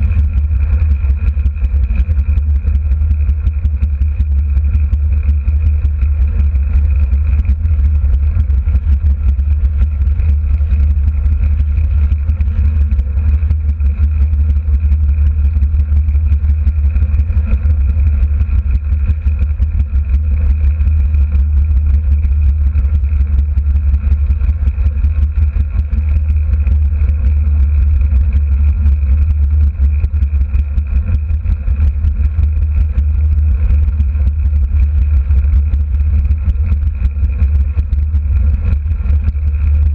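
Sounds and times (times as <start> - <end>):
wind over microphone: 0.0 - 39.9.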